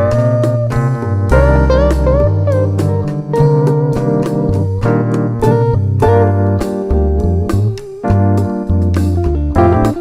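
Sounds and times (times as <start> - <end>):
deep bass notes: 0.0 - 10.0
piano-like keyboard melody: 0.0 - 10.0.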